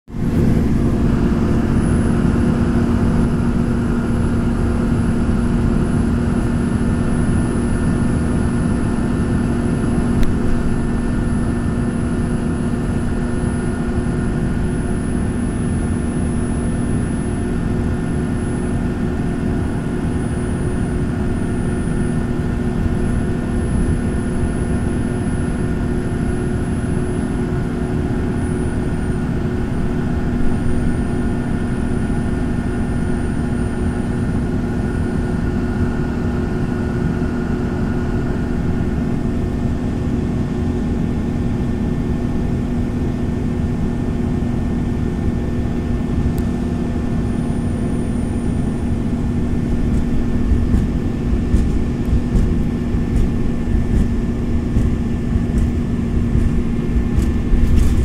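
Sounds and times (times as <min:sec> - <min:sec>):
vehicle engine and tyre rumble: 0:00.1 - 0:58.0.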